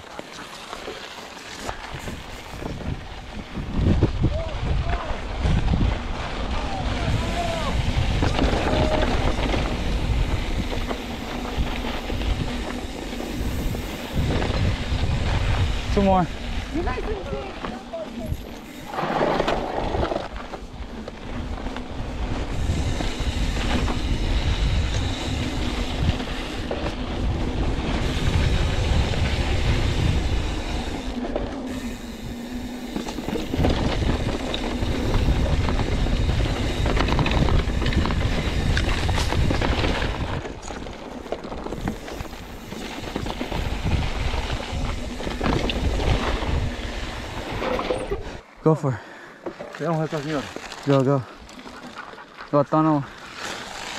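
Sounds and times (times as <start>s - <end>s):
bike chain and frame rattling: 0.0s - 48.5s, 49.5s - 53.9s
wind rumbling on microphone: 1.5s - 48.5s.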